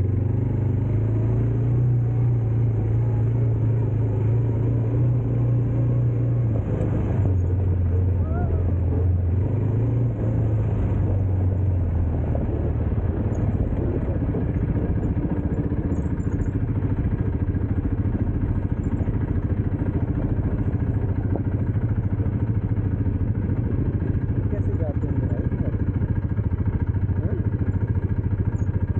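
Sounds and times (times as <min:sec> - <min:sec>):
dirt bike engine running: 0:00.0 - 0:28.9.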